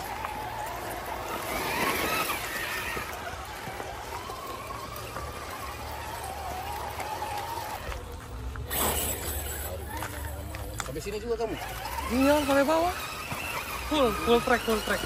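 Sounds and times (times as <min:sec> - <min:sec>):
rock and dirt scrabbling under tyres: 0:00.0 - 0:15.0
small electric motor whining: 0:00.0 - 0:15.0.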